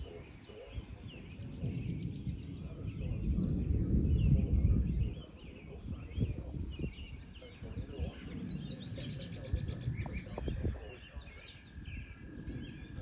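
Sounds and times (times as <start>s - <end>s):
low rumbling noise: 0.0s - 13.0s
small birds chirping: 0.0s - 13.0s.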